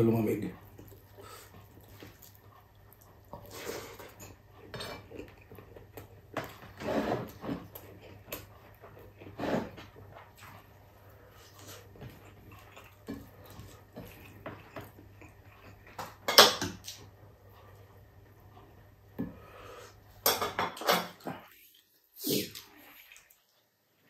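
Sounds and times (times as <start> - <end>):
person chewing noisily: 0.5 - 19.9.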